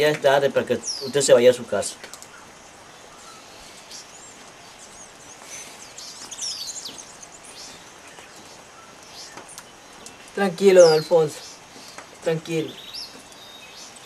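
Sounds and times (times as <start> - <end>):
birds chirping: 0.0 - 14.0
steady background hiss: 0.0 - 14.0.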